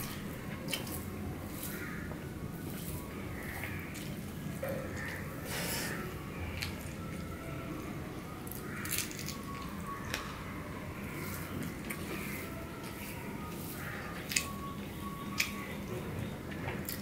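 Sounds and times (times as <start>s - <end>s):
wet squishing of rice by hand: 0.0s - 7.4s, 8.4s - 10.3s, 10.9s - 15.9s.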